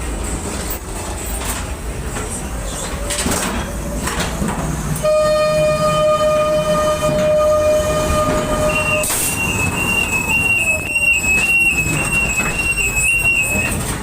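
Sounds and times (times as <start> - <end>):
ride car rumbling on track: 0.0 - 14.0.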